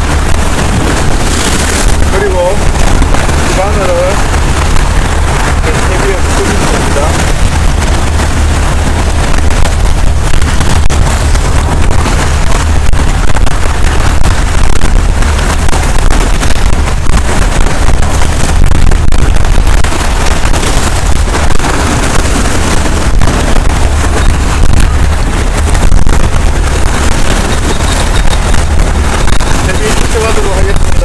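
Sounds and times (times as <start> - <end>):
waves breaking on rocky shore: 0.0 - 31.0
wind buffeting microphone: 0.0 - 31.0.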